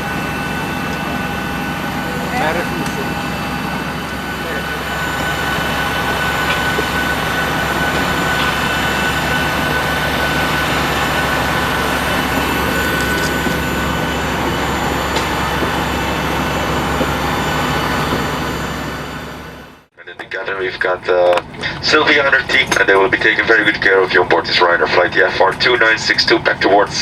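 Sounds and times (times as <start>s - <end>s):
airliner cabin rush and hum: 0.0s - 27.0s
thin high whine: 0.0s - 27.0s.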